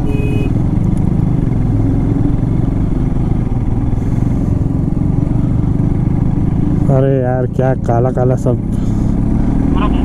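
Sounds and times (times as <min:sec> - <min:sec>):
motorcycle engine running steadily: 0:00.0 - 0:10.0.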